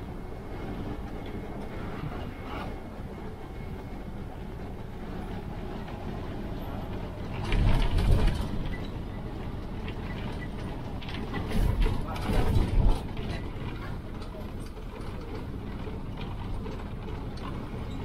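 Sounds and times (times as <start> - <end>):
bus body rattling and knocking: 0.0 - 18.0
bus engine and road rumble: 0.0 - 18.0.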